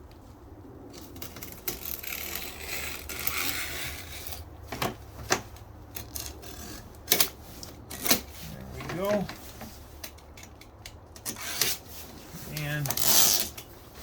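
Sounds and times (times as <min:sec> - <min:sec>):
mesh rustling as it is cut: 0:00.9 - 0:14.0.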